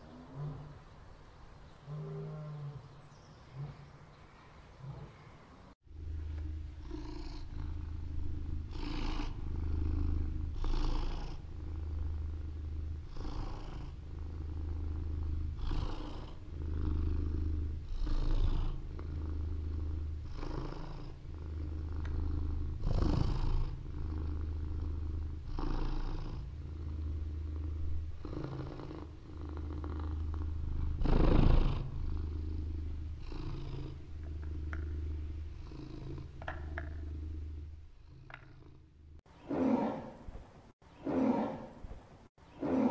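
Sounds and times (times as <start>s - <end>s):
animal purring: 4.8s - 42.0s, 42.6s - 42.9s.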